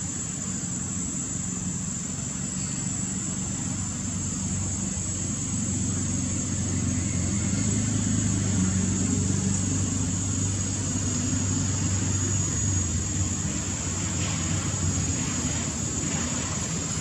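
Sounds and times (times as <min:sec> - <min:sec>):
engine humming: 0:00.0 - 0:17.0
high-pitched hiss: 0:00.0 - 0:17.0.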